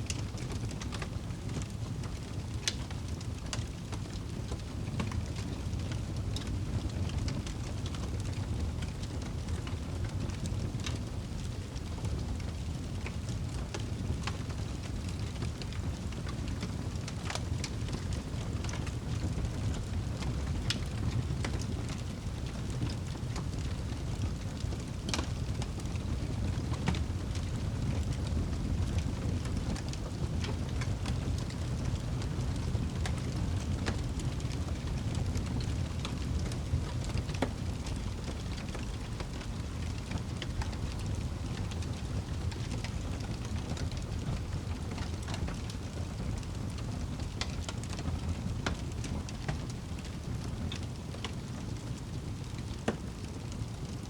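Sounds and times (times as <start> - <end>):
burning wood crackling and popping: 0.0 - 54.0
low rumble of flames: 0.0 - 54.0.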